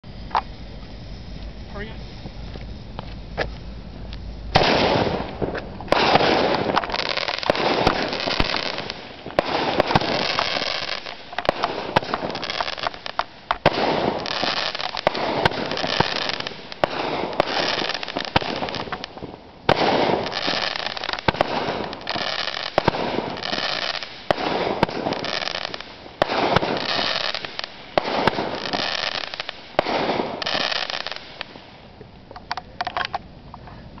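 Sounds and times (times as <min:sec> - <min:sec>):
fireworks blasts with crackling: 0:00.1 - 0:34.0.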